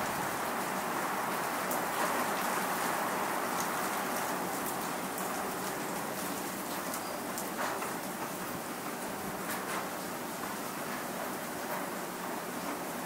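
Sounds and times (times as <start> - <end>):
raindrops ticking on a surface: 0.6 - 12.8.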